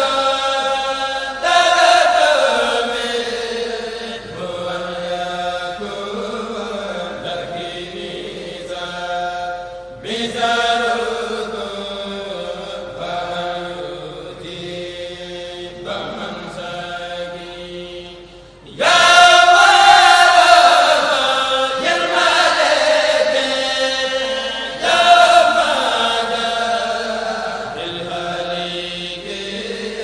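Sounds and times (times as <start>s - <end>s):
person chanting devotional poem: 0.0s - 30.0s.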